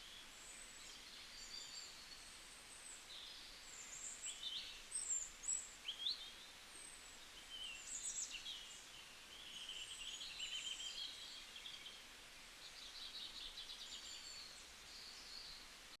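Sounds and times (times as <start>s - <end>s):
faint outdoor hiss: 0.0s - 16.0s
songbirds chirping and trilling: 0.0s - 16.0s.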